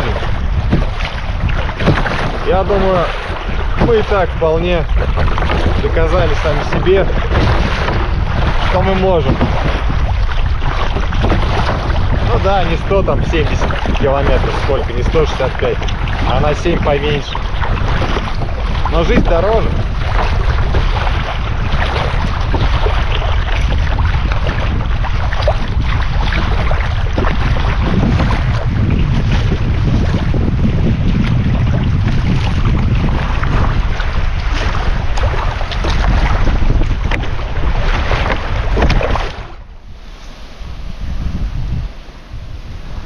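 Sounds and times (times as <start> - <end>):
water splashing and lapping: 0.0 - 43.0
wind buffeting microphone: 0.0 - 43.0.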